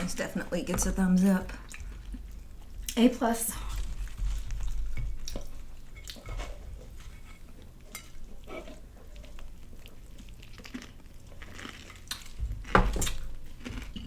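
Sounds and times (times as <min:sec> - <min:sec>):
soft chewing: 0:01.2 - 0:14.0.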